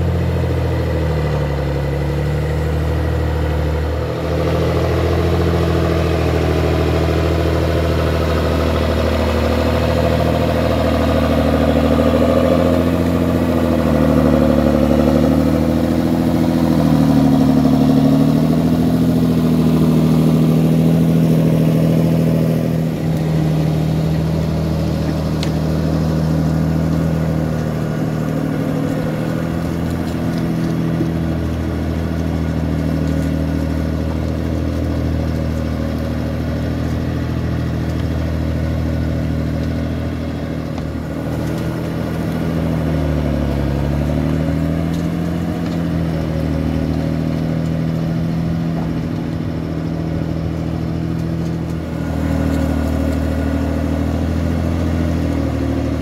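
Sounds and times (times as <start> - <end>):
forwarder engine running: 0.0 - 56.0.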